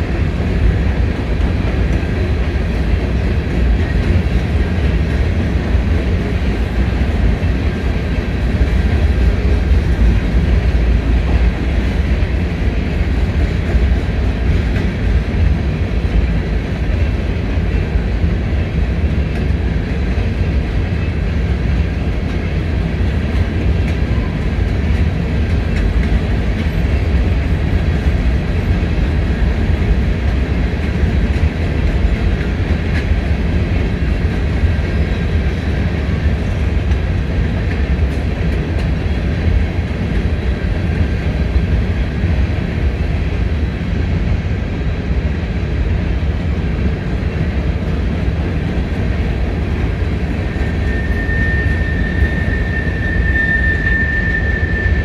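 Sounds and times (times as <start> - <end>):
freight train cars rolling past: 0.0 - 55.0
steel wheels rumbling on rail: 0.0 - 55.0.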